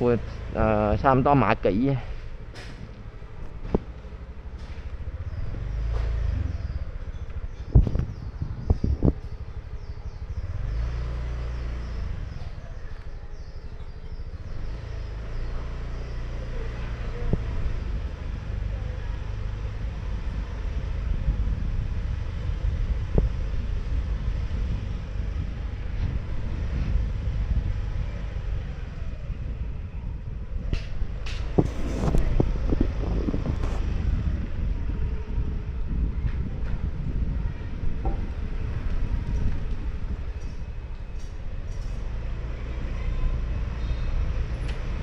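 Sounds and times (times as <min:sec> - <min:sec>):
traffic rumble: 0:00.0 - 0:45.0.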